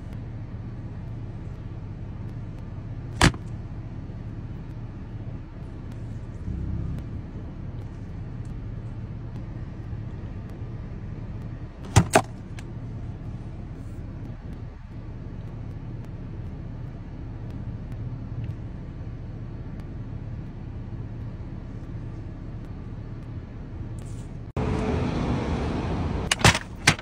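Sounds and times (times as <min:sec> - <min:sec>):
car cabin hum: 0:00.0 - 0:24.9, 0:25.7 - 0:27.0.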